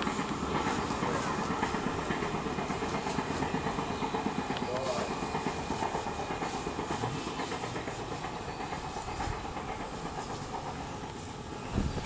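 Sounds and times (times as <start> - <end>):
train coaches rattling over rails: 0.0 - 12.0.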